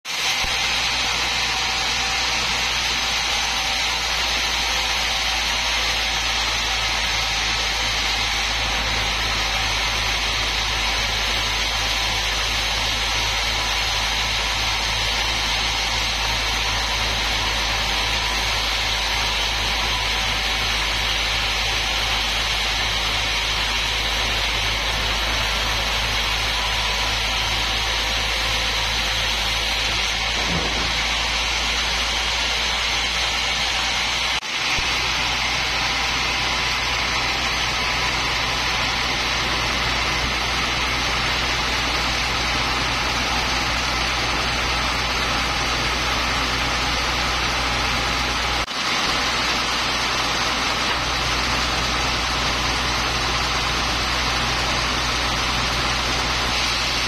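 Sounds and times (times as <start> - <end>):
band saw cutting log: 0.1 - 57.0
low regular machine pulse: 0.2 - 57.0.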